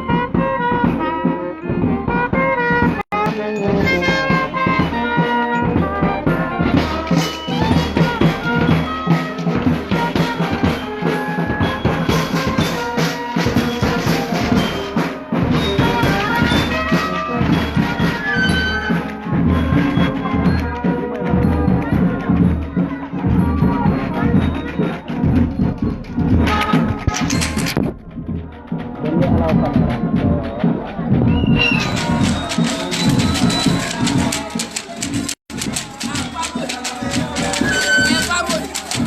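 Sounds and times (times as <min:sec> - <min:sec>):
brass horns playing music: 0:00.0 - 0:39.0
drums with steady beat: 0:00.0 - 0:39.0.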